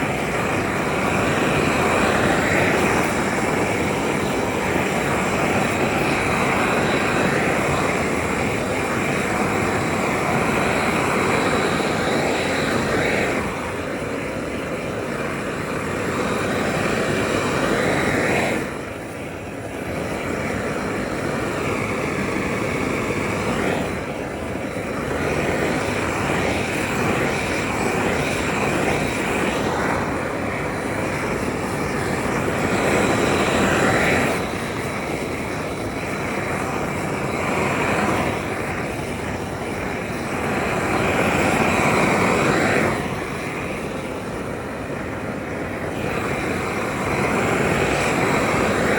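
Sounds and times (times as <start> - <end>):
factory equipment rushing noise: 0.0 - 48.9.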